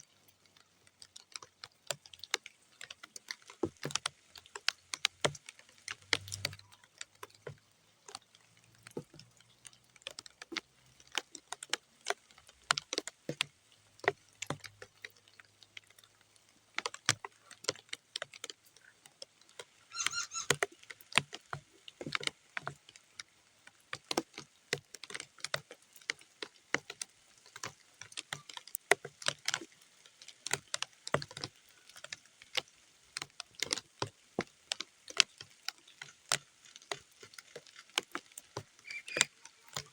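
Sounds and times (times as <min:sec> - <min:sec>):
raindrops hitting muddy ground: 0:00.0 - 0:39.9.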